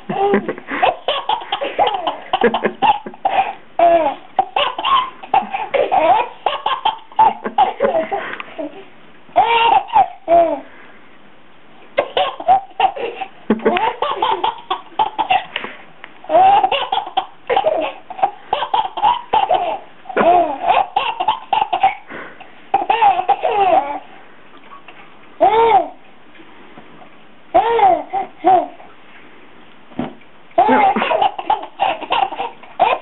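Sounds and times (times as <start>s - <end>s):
baby laughing: 0.0s - 10.7s, 12.0s - 15.6s, 16.2s - 24.1s, 25.4s - 26.0s, 27.5s - 28.8s, 30.6s - 33.0s.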